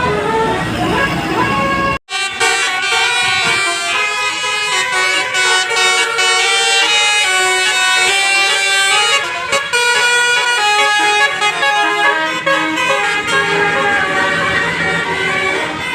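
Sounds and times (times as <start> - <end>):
bus air horn playing a melody: 0.0 - 15.9.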